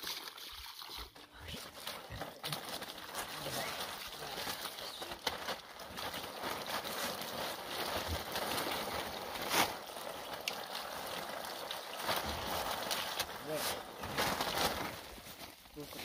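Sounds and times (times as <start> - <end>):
hose water splashing: 0.0 - 16.0.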